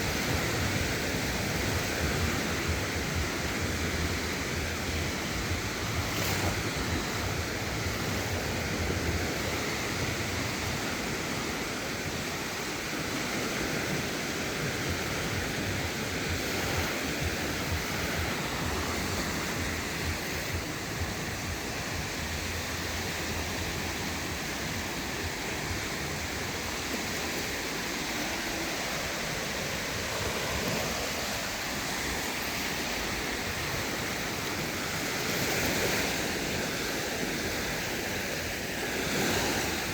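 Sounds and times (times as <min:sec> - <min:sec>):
sea surf washing onto beach: 0:00.0 - 0:39.9
wind rumble on microphone: 0:00.0 - 0:39.9.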